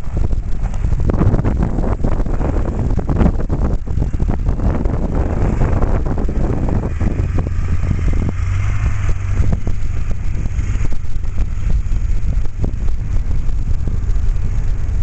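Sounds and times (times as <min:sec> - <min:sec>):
diesel truck engine under load: 0:00.0 - 0:15.0
wind buffeting microphone: 0:00.0 - 0:15.0.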